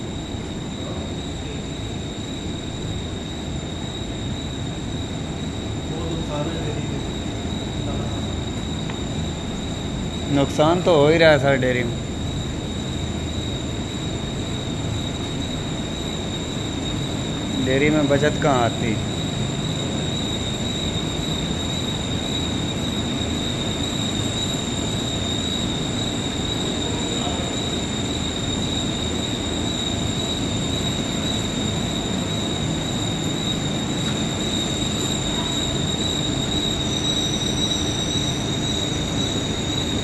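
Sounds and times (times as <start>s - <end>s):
high fan whine: 0.0s - 40.0s
ventilation fans rushing: 0.0s - 40.0s.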